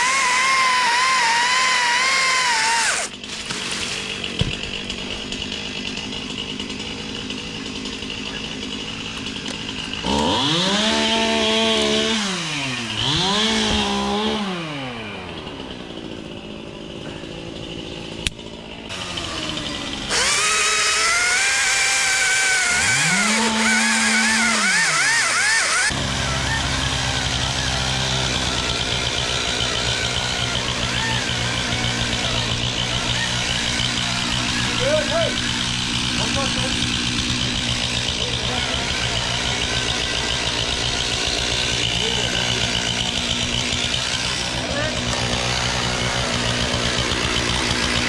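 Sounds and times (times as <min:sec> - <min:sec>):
chainsaw revving: 0:00.0 - 0:48.0.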